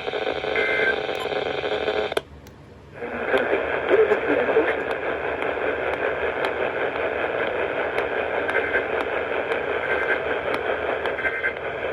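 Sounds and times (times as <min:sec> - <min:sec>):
radio static hiss: 0:00.0 - 0:02.2, 0:03.0 - 0:11.9.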